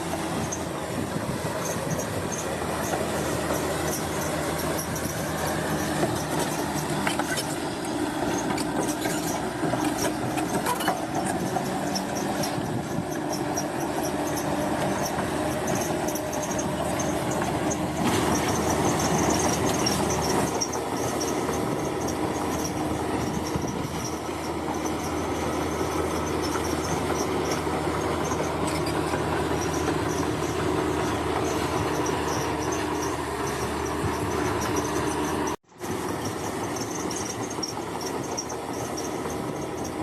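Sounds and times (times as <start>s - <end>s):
bulldozer diesel engine: 0.0s - 40.0s
steel tracks clattering and squealing: 0.0s - 40.0s.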